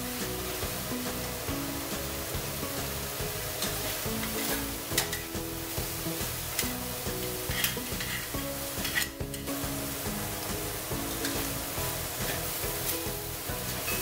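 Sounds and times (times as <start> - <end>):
food sizzling in a wok: 0.0 - 14.0
soft background music: 0.0 - 14.0.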